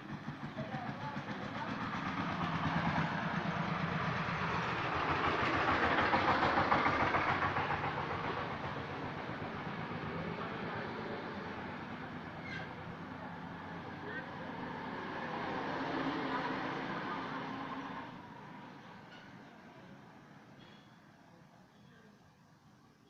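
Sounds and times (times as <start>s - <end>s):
vehicle rattling rumble: 0.0s - 19.6s.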